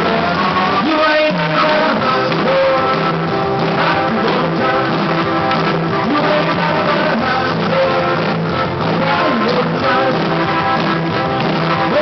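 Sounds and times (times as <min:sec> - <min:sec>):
dance music with singer: 0:00.0 - 0:12.0.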